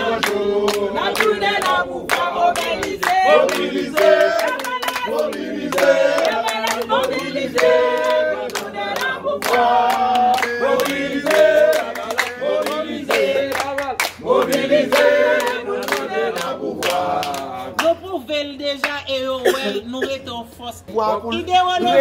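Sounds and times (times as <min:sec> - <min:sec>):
group singing a chant: 0:00.0 - 0:17.8
hand clapping in time: 0:00.2 - 0:18.0.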